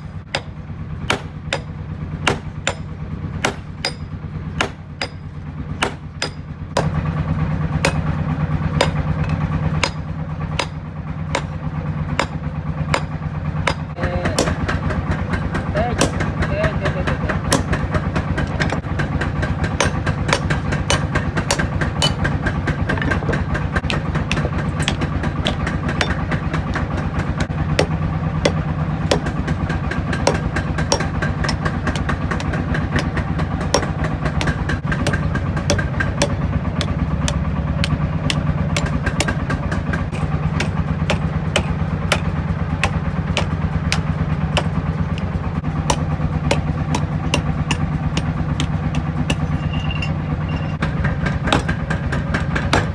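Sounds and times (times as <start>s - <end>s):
hammer striking metal on anvil: 0.0s - 7.0s, 7.8s - 16.4s, 17.4s - 50.8s, 51.4s - 52.9s
steady motor drone: 0.0s - 52.9s.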